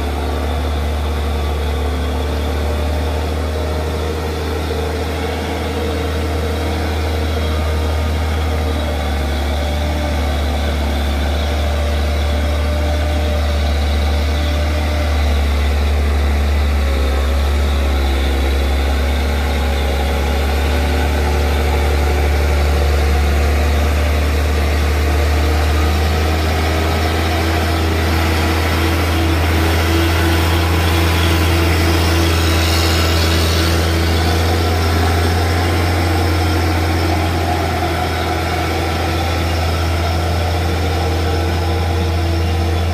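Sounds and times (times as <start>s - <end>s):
truck diesel engine droning uphill: 0.0s - 42.9s.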